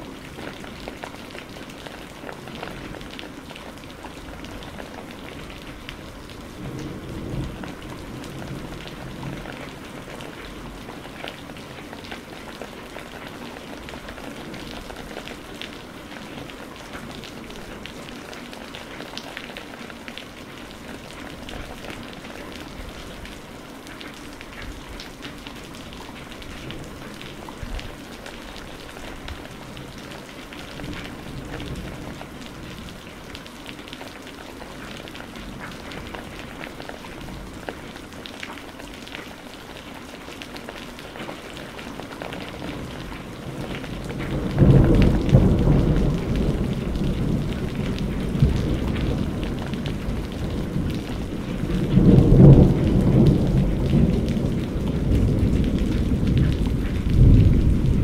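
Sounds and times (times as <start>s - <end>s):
rain pattering on hard surface: 0.0s - 58.0s.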